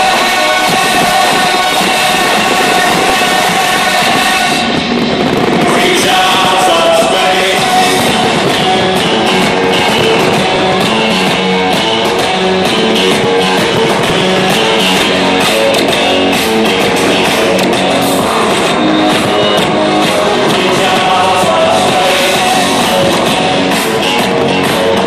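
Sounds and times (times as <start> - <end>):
loud rock music electric guitar: 0.0 - 25.0.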